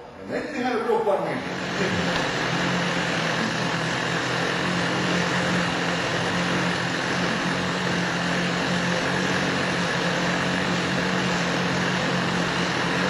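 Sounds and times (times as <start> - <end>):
model airplane engine idling: 1.4 - 13.0.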